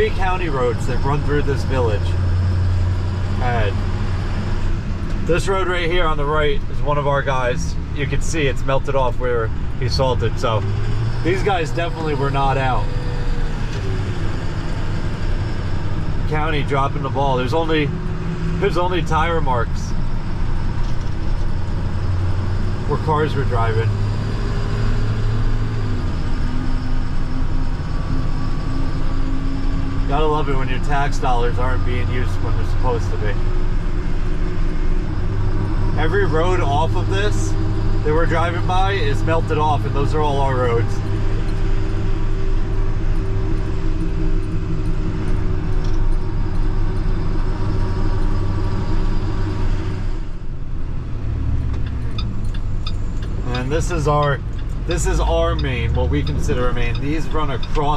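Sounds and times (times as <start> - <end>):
road noise: 0.0 - 57.9
truck engine drone: 0.0 - 57.9.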